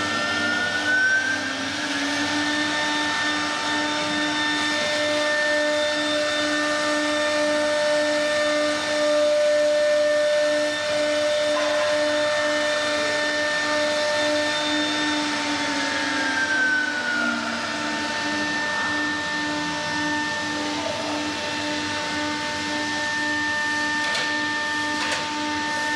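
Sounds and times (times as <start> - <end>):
cnc router whine: 0.0 - 25.9.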